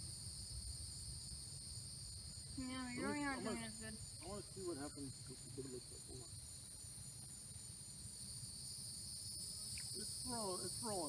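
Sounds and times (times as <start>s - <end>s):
insects trilling in chorus: 0.0s - 11.0s.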